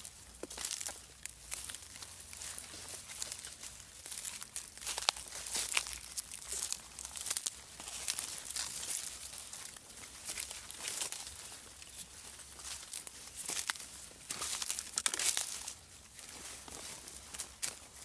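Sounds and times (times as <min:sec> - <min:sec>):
dense rustling and crackling: 0:00.0 - 0:18.0.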